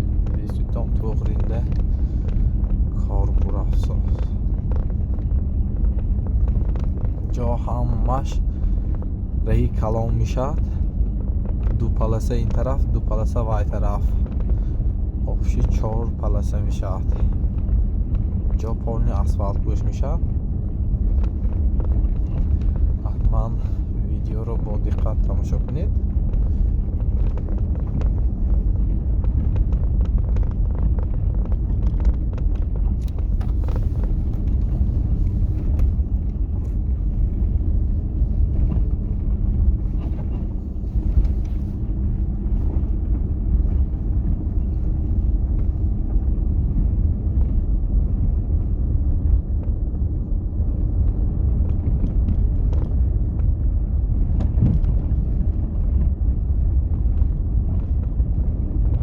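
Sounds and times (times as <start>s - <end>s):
road noise: 0.0s - 59.0s
vehicle driving rumble: 0.0s - 59.0s.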